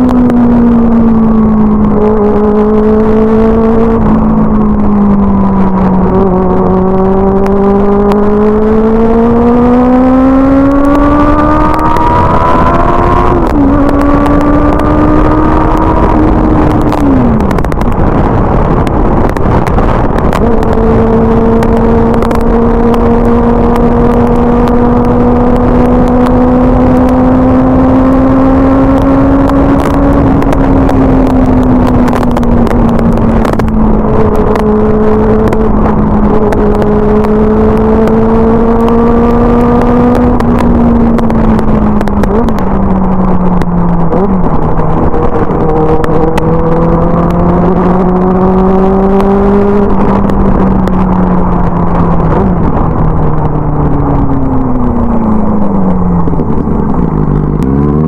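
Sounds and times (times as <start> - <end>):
motorcycle engine cruising: 0.0 - 58.0
wind buffeting microphone: 0.0 - 58.0.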